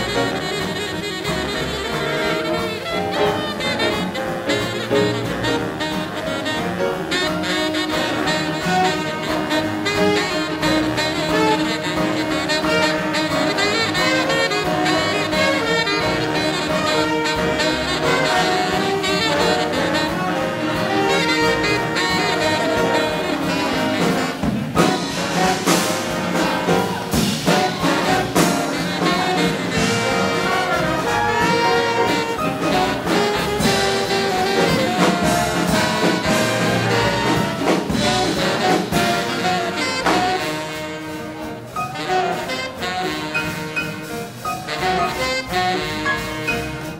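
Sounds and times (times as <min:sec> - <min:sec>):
big band playing swing jazz: 0:00.0 - 0:46.9.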